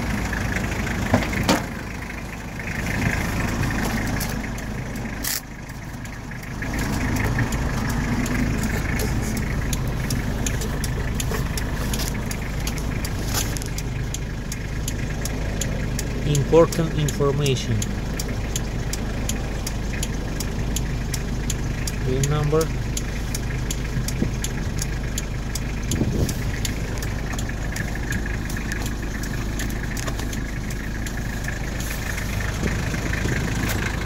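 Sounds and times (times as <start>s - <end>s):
diesel engine idling: 0.0s - 34.0s
sharp clicks: 2.9s - 34.0s.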